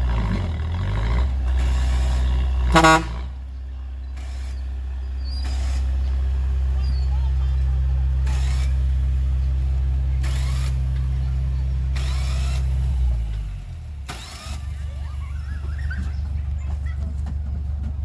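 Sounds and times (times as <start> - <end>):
diesel engine running: 0.0 - 18.0
low rough engine rumble: 0.0 - 18.0.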